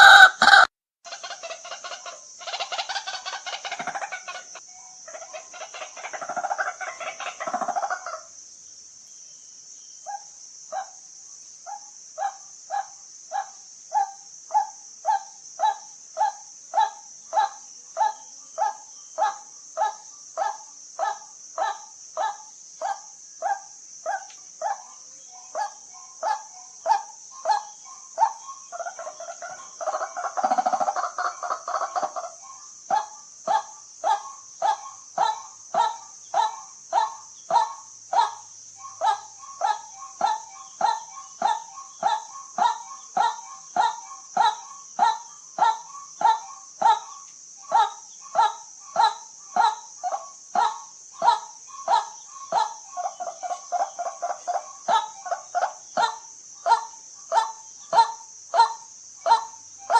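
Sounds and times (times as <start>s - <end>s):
waterhen kwak calls: 0.0s - 8.3s, 11.7s - 59.9s
croaking bird calls: 0.0s - 8.4s, 10.0s - 59.9s.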